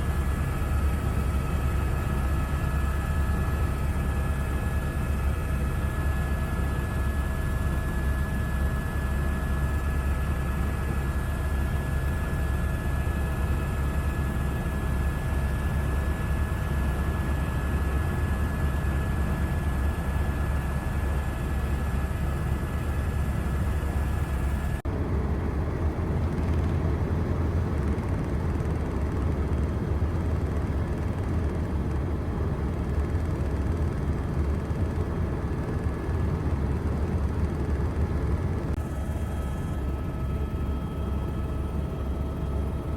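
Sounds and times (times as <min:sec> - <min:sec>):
aircraft engine whine: 0:00.0 - 0:42.9
aircraft low rumble: 0:00.0 - 0:42.9.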